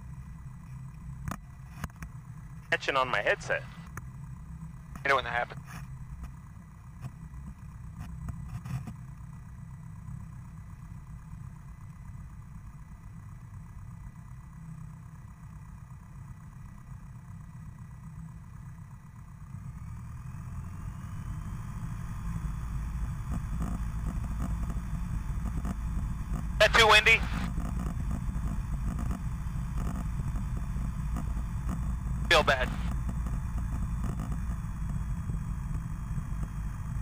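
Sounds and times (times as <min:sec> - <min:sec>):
airplane piston engine idling: 0:00.0 - 0:20.1, 0:22.4 - 0:37.0.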